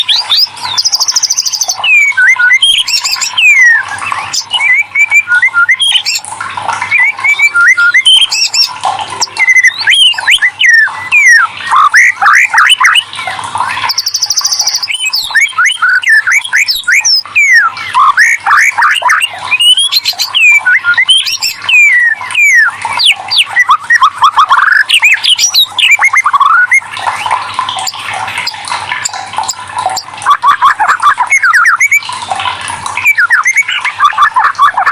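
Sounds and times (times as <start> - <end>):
songbird singing whistles: 0.0 - 13.1, 13.8 - 28.6, 29.9 - 32.1, 33.0 - 34.9.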